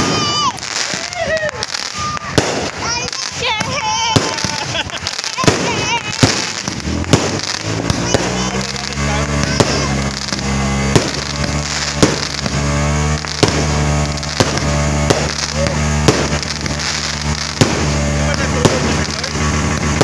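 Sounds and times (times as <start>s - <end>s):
fireworks bursting with bangs: 0.0s - 20.0s
fireworks crackle: 0.0s - 20.0s.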